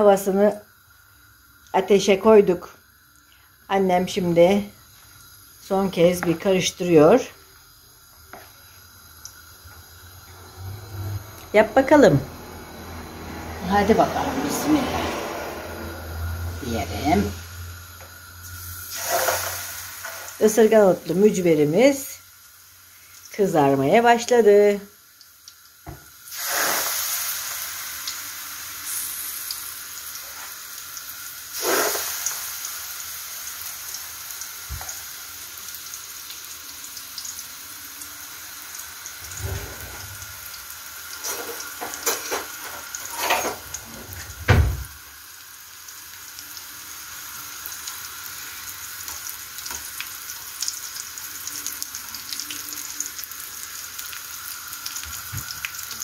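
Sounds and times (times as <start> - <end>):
fritters sizzling in hot oil: 0.0 - 56.0.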